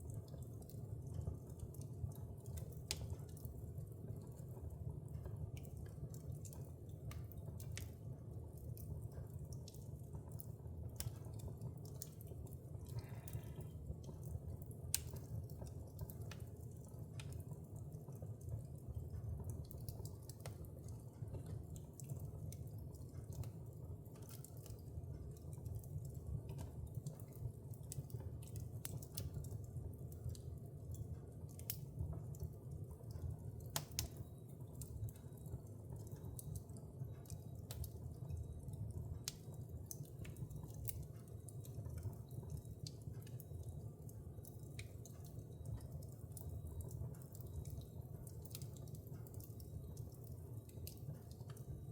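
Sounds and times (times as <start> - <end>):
fire crackling and popping: 0.0 - 51.9
fire flames rumbling: 0.0 - 51.9.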